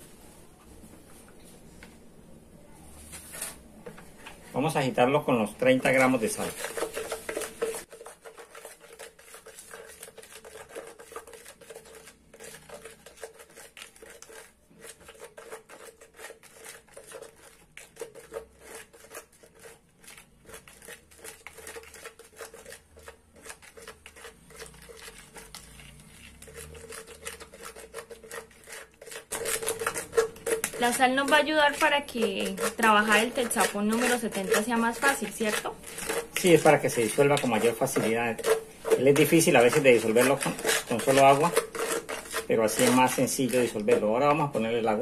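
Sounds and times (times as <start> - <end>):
stick scraping plastic jug: 3.0 - 45.0.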